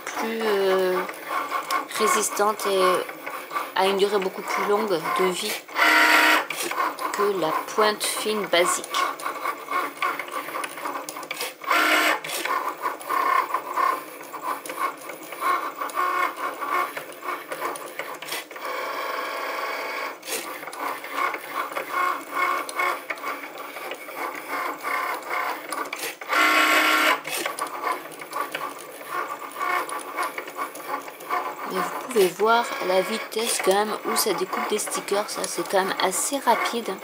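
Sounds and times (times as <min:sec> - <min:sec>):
cutting machine motors whirring: 0:00.0 - 0:37.0.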